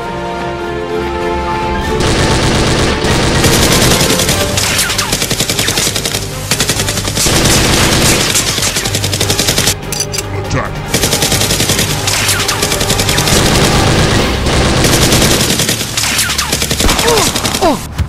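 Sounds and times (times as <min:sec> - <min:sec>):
background music: 0:00.0 - 0:18.0
rapid automatic gunfire: 0:02.0 - 0:09.8, 0:10.9 - 0:17.9.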